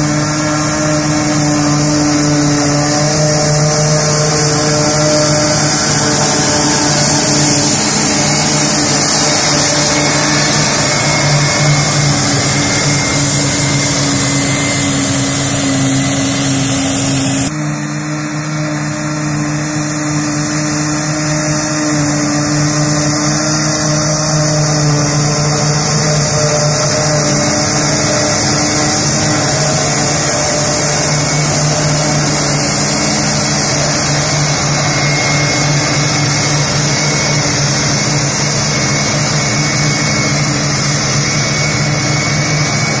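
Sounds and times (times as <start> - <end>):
forage harvester running: 0.0 - 43.0.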